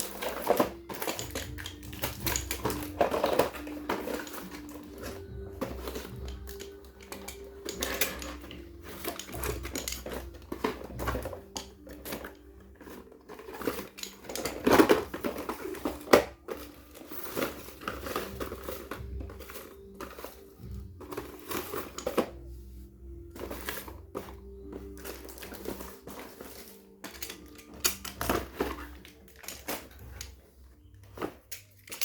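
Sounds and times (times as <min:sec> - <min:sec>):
packaging crinkling and rustling: 0:00.0 - 0:32.0.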